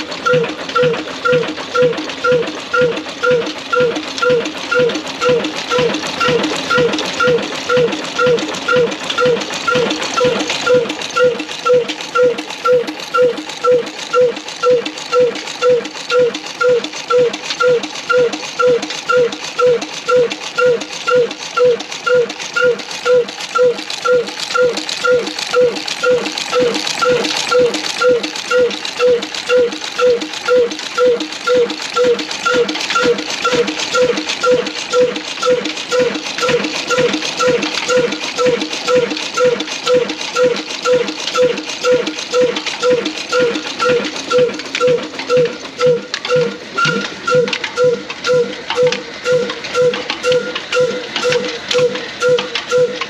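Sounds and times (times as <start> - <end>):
stationary diesel engine running: 0.0 - 53.0
valve gear clattering: 0.0 - 53.0.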